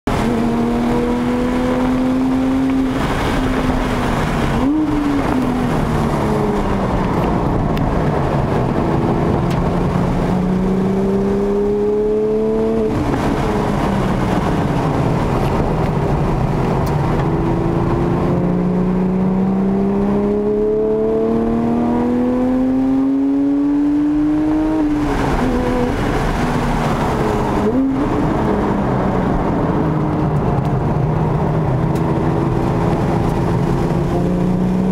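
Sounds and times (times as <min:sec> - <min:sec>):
road and wind noise: 0:00.0 - 0:34.9
car engine accelerating: 0:00.1 - 0:34.9.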